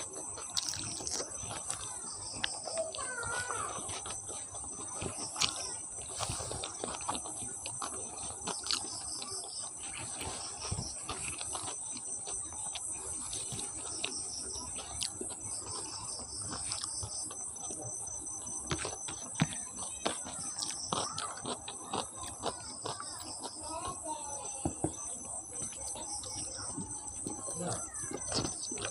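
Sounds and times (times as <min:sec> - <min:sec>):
crickets chirping: 0:00.0 - 0:28.9
mouth chewing: 0:00.0 - 0:28.9.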